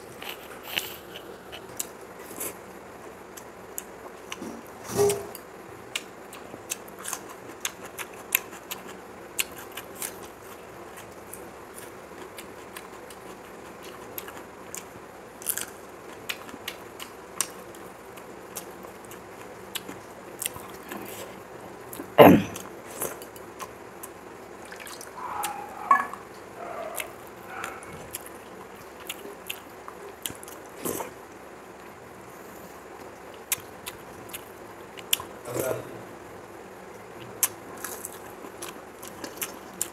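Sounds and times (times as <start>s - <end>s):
close chewing and mouth sounds: 0.0s - 2.7s, 5.8s - 32.0s, 32.8s - 35.4s, 36.9s - 39.9s.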